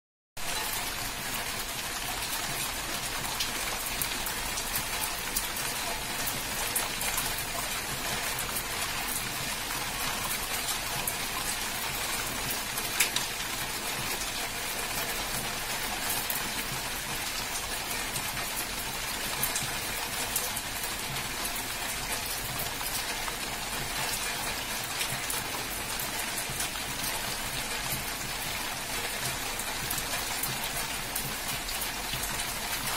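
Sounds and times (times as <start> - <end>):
heavy rain on trees: 0.4 - 32.9.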